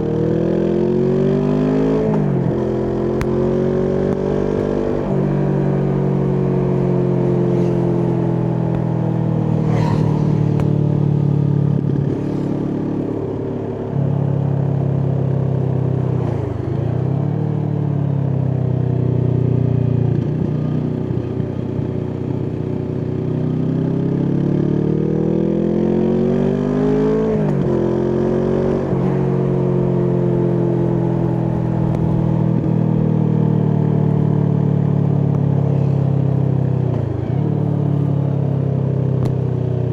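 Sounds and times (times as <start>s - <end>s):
motorcycle engine revving: 0.0s - 18.2s, 23.1s - 39.9s.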